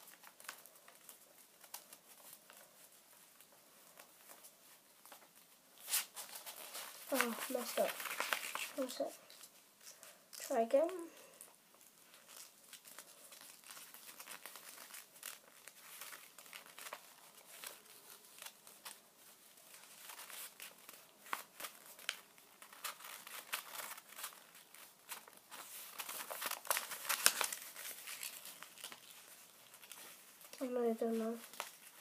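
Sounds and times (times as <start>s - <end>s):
paper rustling and crinkling: 0.0s - 32.0s.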